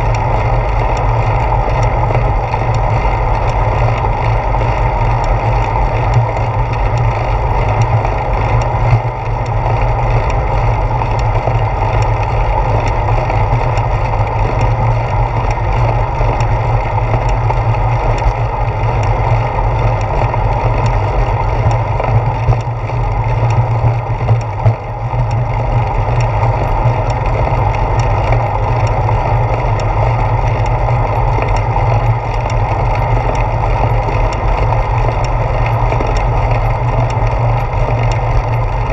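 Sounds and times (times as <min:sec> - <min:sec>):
road vibration: 0:00.0 - 0:38.9.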